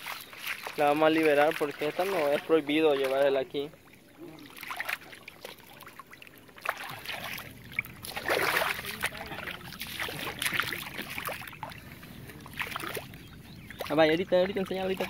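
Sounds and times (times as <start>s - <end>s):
fish splashing in shallow water: 0.0s - 15.0s.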